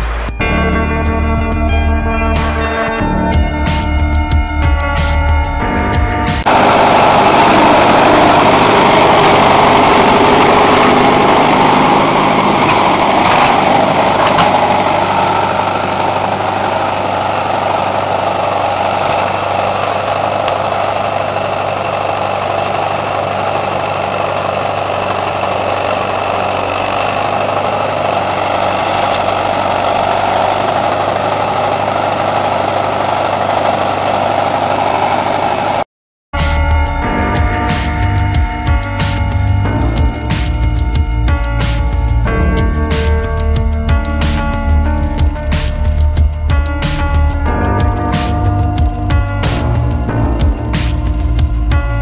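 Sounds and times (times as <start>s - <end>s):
tractor engine running: 0.0s - 35.8s, 36.4s - 52.0s.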